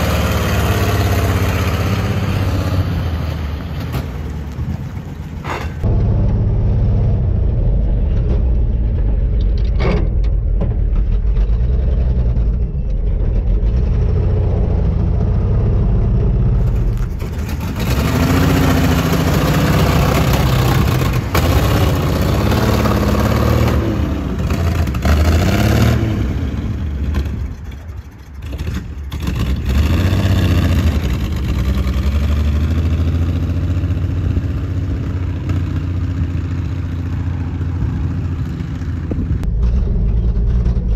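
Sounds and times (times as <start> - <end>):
truck accelerating past: 0.0 - 40.9
truck engine rumbling: 0.0 - 40.9.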